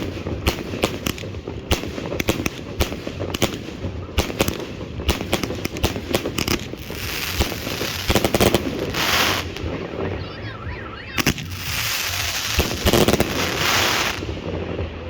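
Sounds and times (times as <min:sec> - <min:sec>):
firework bangs: 0:00.0 - 0:15.0
hissing crackle: 0:00.0 - 0:15.0.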